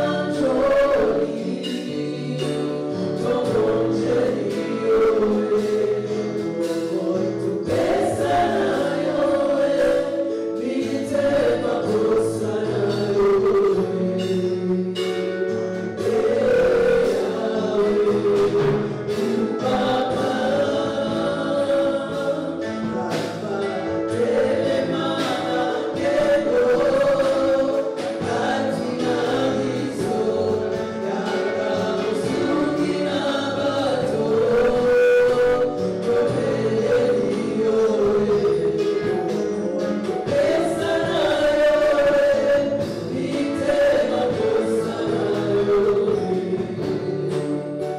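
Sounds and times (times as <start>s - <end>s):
choir singing: 0.0s - 14.7s, 15.9s - 39.2s, 40.0s - 47.9s
band with steady percussion: 0.0s - 47.9s.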